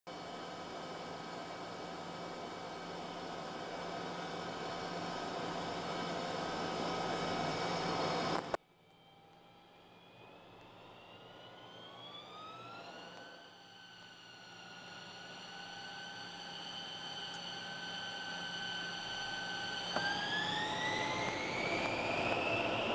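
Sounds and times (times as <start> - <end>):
jet engine whining: 0.1 - 22.9.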